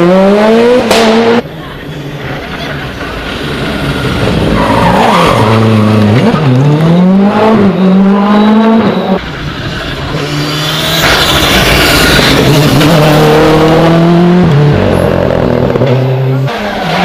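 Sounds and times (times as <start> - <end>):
rally car engine revving: 0.0 - 1.4, 2.9 - 17.0.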